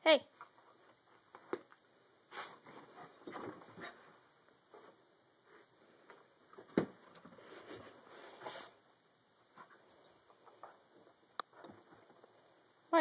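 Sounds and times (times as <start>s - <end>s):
dog paws pattering on carpet: 0.3s - 8.7s, 9.5s - 12.6s.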